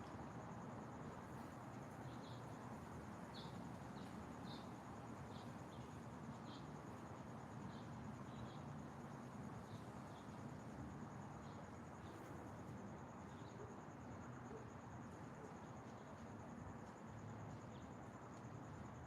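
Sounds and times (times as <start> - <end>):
low steady hiss: 0.0 - 19.0.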